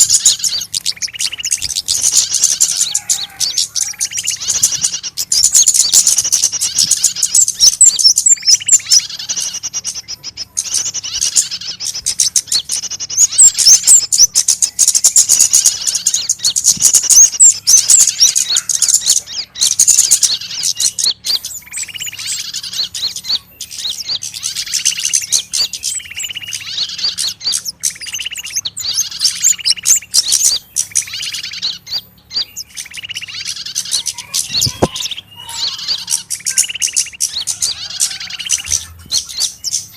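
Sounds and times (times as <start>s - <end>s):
lower bird notes: 0.0s - 39.9s
small birds chirping: 0.0s - 39.9s.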